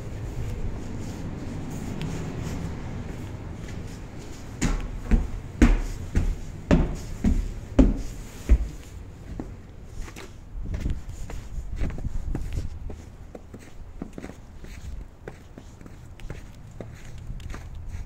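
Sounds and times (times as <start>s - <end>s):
footsteps on wooden stairs: 0.5s - 18.0s.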